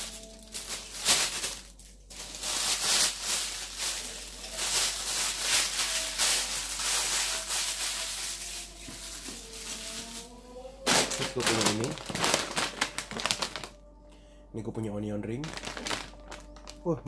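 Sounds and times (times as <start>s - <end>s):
plastic packaging crinkling: 0.0s - 13.8s, 15.2s - 17.0s.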